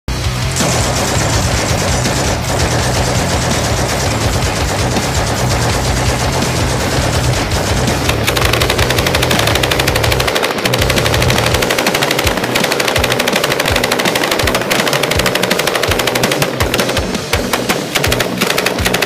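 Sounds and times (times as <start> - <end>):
fast machine gun stream: 0.6 - 19.0
machine gun automatic bursts: 0.6 - 19.0.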